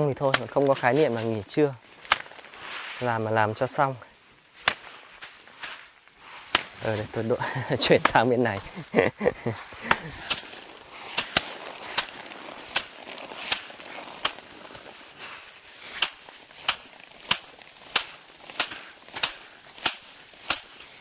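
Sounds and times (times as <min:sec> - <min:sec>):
rice sheaves slapping against stones: 0:00.0 - 0:21.0.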